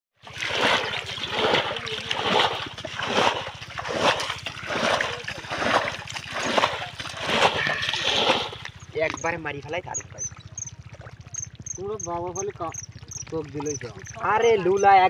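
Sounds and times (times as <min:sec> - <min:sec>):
splashing in muddy water: 0:00.2 - 0:15.0.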